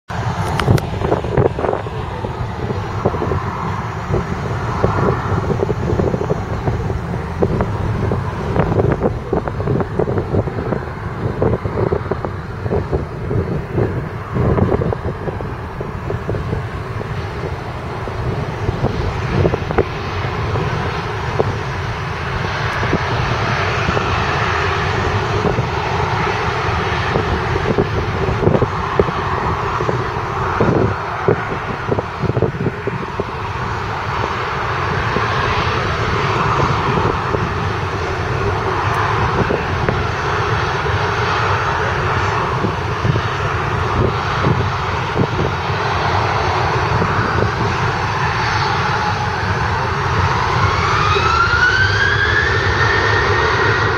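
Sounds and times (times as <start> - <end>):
jet engines at take-off power: 0.0 - 53.9.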